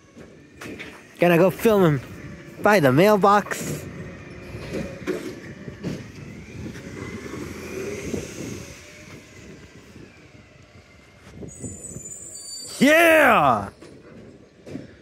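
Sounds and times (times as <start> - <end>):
garbage truck pulling away: 0.0 - 15.0.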